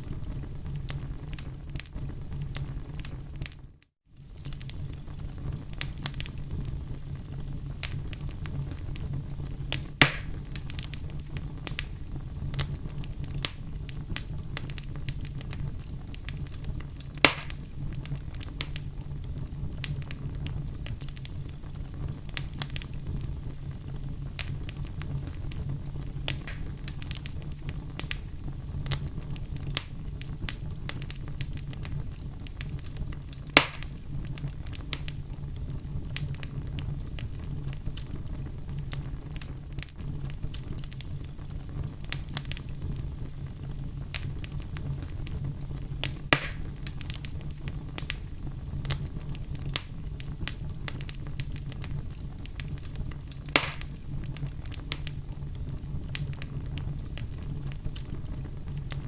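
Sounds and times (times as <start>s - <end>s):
fireplace fire crackling: 0.0s - 59.0s
loud fire pops: 0.0s - 59.0s.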